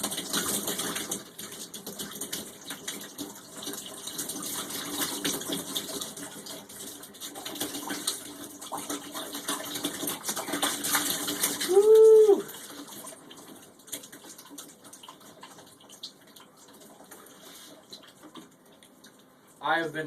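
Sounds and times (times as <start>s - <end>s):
shower water running: 0.0s - 20.0s.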